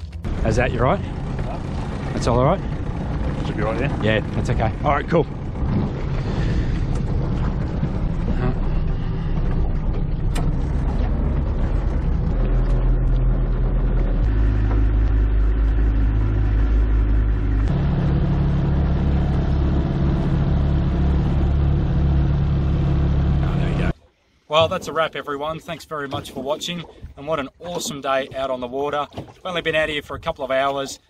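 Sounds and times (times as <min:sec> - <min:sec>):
outboard motor running: 0:00.0 - 0:30.5.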